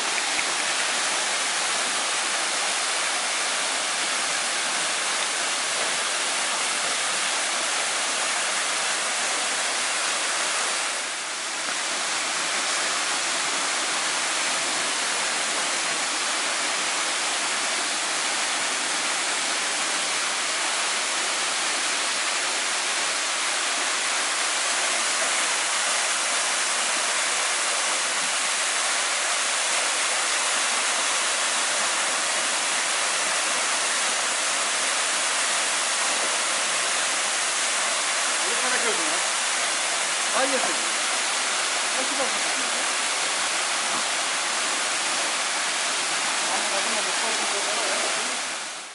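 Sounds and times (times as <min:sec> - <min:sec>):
waterfall pouring into pool: 0:00.0 - 0:48.9.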